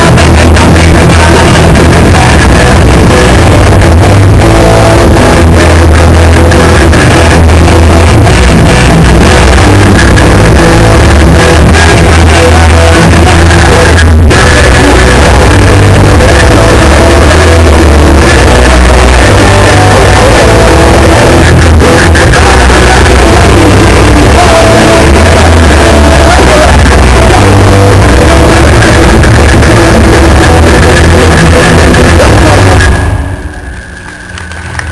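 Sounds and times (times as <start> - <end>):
punk band playing live: 0.0 - 34.8.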